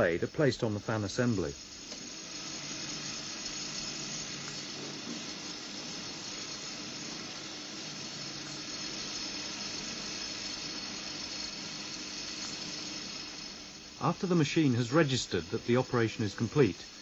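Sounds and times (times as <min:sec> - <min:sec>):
factory machinery hiss: 0:00.0 - 0:17.0.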